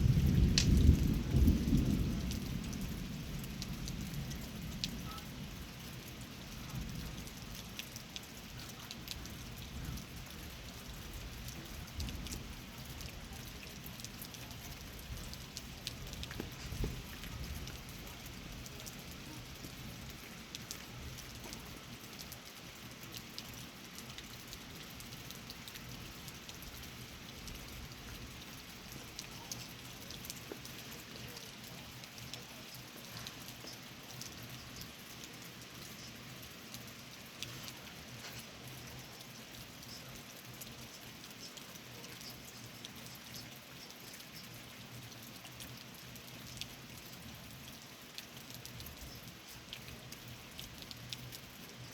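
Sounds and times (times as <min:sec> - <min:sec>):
raindrops ticking: 0:00.0 - 0:51.9
steady rain: 0:00.0 - 0:51.9.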